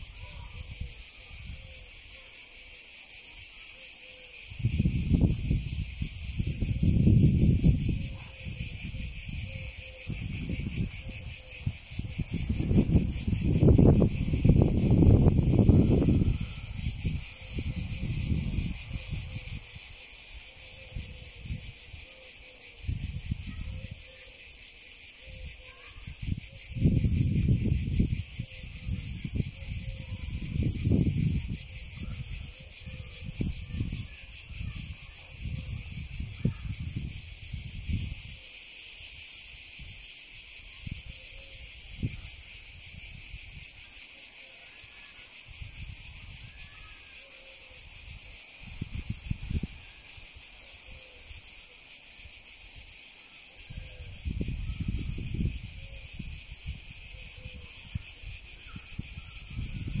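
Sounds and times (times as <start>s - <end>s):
cicadas buzzing: 0.0s - 60.0s.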